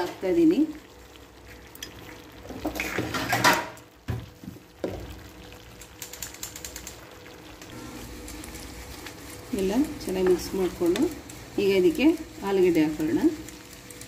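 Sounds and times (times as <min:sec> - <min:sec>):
gravy simmering and spluttering: 0:00.7 - 0:14.0.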